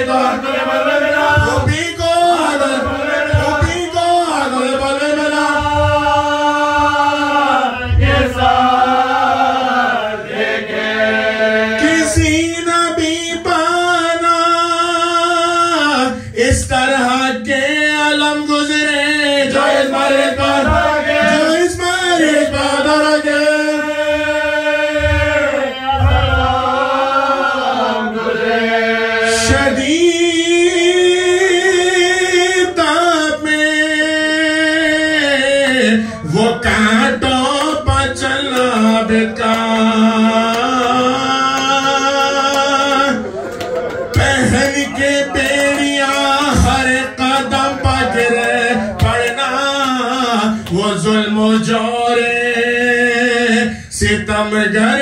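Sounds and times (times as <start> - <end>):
man chanting a lament: 0.0 - 9.9, 11.1 - 26.8, 29.2 - 43.4, 44.0 - 55.0.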